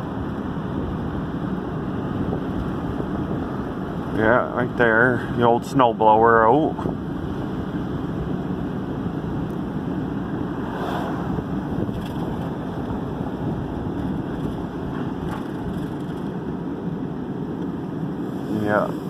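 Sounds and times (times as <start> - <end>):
car road noise rumble: 0.0 - 19.0.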